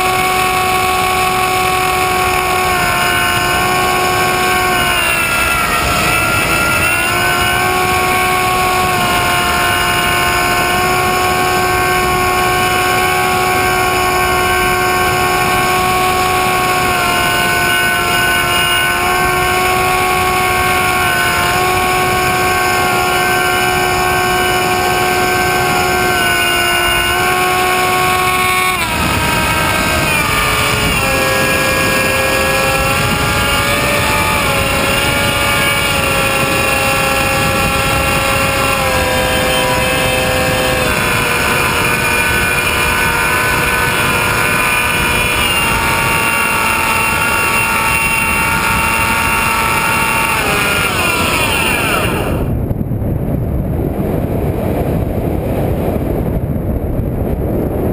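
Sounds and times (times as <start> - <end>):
model airplane motor whine: 0.0 - 52.8
wind rush: 0.0 - 57.9.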